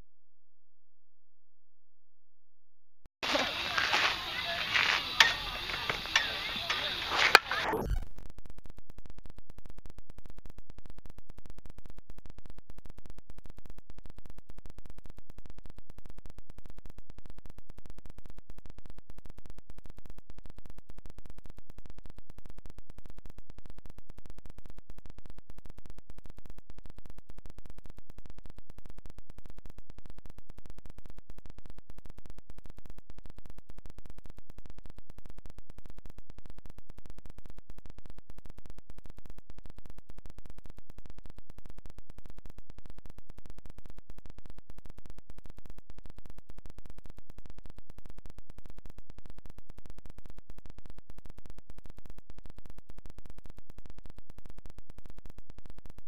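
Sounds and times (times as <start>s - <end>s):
digital static clicks: 4.7s - 56.0s.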